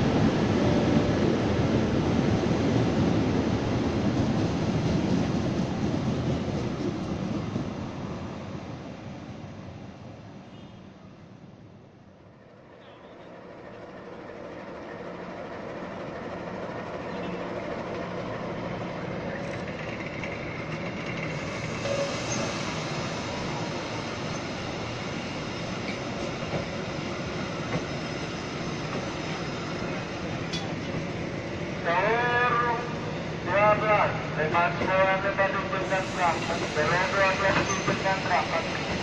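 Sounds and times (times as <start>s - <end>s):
train coaches rumbling past: 0.0s - 39.0s.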